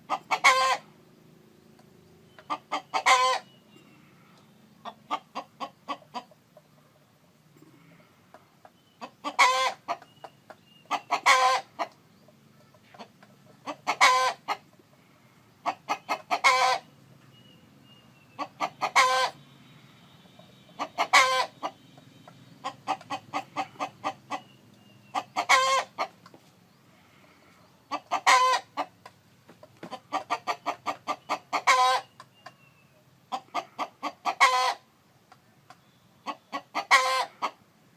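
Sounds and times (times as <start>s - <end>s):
chickens clucking: 0.0s - 37.7s.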